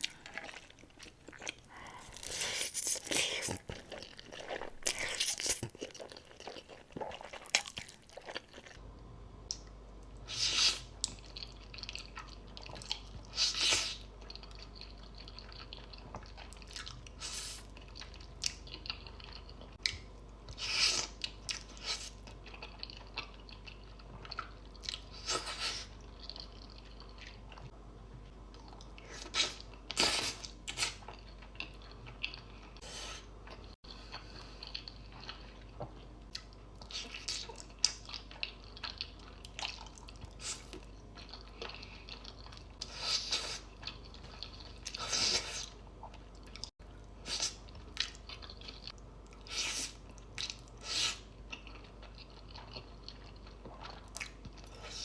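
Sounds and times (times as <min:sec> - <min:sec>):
person chewing noodles: 0:00.0 - 0:08.8, 0:10.2 - 0:27.8, 0:28.5 - 0:55.0
low steady hum: 0:00.0 - 0:55.0.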